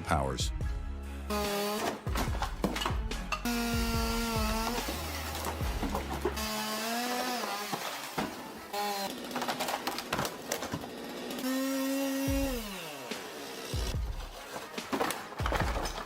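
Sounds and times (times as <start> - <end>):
chainsaw engine revving: 1.3 - 16.0.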